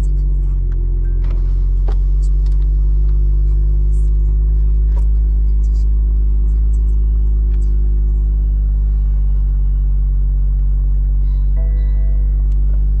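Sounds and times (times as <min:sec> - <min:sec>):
car engine drone in cabin: 0:00.0 - 0:13.0.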